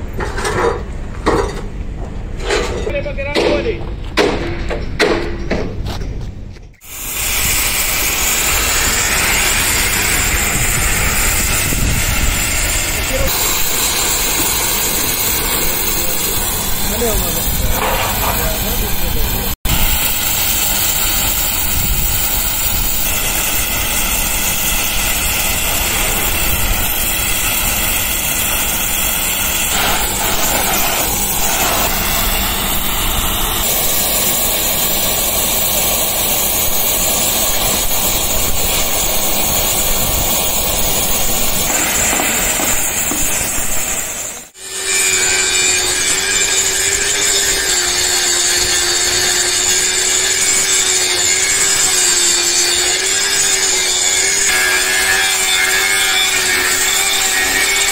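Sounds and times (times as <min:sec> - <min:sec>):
angle grinder on steel: 0:06.8 - 0:57.9
cutting torch hissing: 0:06.8 - 0:57.9.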